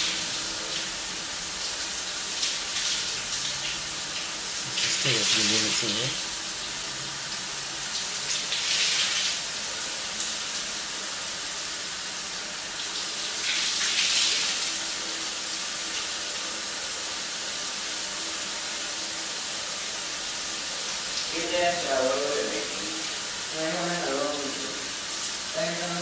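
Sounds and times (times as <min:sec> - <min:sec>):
shower spray running: 0:00.0 - 0:26.0.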